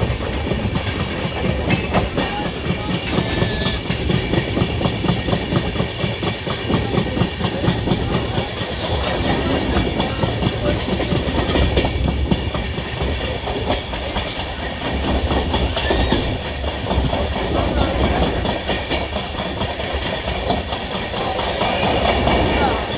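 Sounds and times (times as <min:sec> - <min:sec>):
moving train rumble: 0:00.0 - 0:22.9
train wheels clattering: 0:00.0 - 0:22.9.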